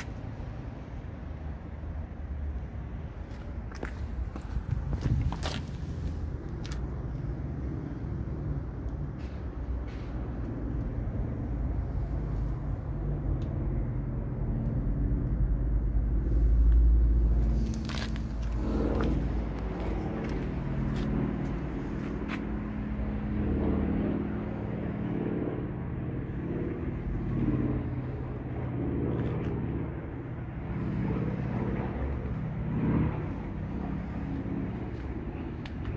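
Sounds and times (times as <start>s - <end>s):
motor vehicle rumble: 0.0s - 35.9s.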